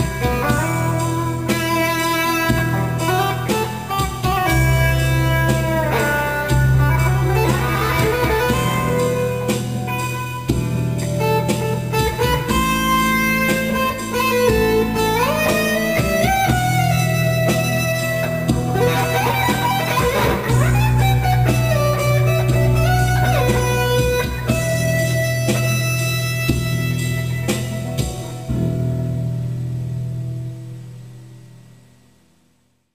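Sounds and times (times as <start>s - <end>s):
blues guitar with sliding notes: 0.0s - 31.5s
steady bass line: 0.0s - 31.8s.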